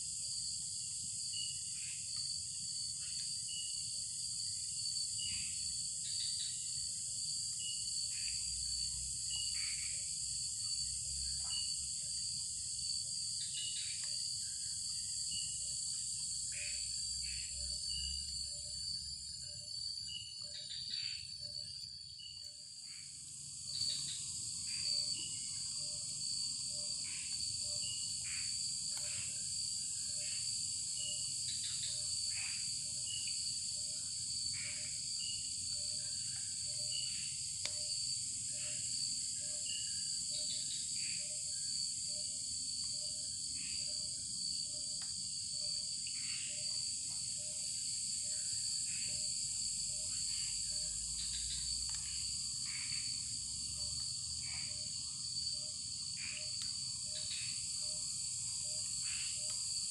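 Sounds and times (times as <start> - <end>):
insects droning: 0.0 - 59.9
shrill insect trill: 0.0 - 59.9.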